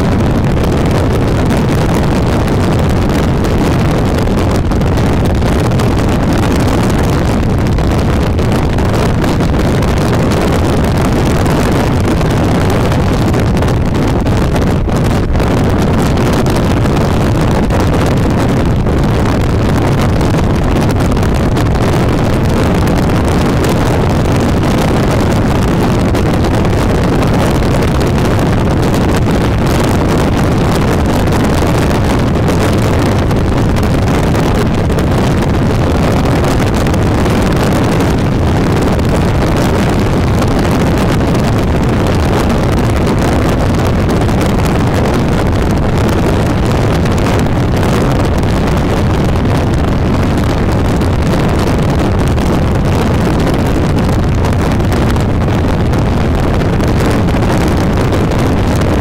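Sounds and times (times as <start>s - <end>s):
car road noise: 0.0s - 59.0s
wind buffeting microphone: 0.0s - 59.0s.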